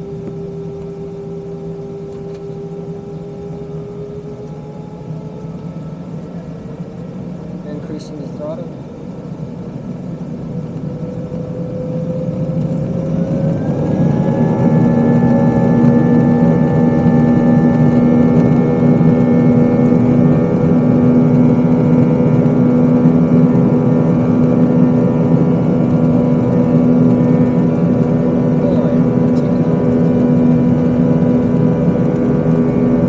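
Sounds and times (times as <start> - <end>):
jet engines spooling up: 0.0 - 33.0.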